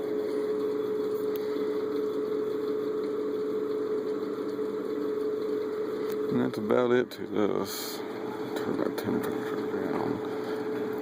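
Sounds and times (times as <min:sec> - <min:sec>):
space heater fan humming: 0:00.0 - 0:11.0.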